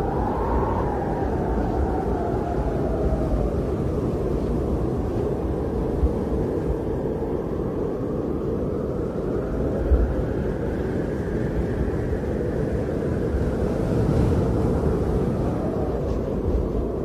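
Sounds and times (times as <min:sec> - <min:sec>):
blizzard wind rushing: 0:00.0 - 0:17.0
wind buffeting microphone: 0:00.0 - 0:17.0.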